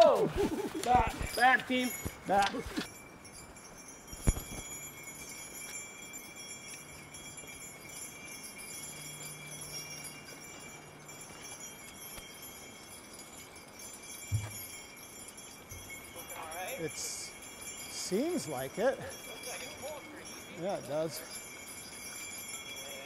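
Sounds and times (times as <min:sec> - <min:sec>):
harness bells jingling: 0:00.0 - 0:23.0.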